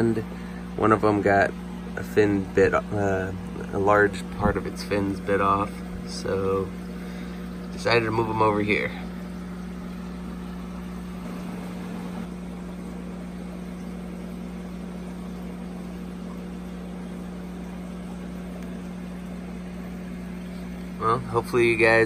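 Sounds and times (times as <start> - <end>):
aquarium equipment humming: 0.0 - 22.0.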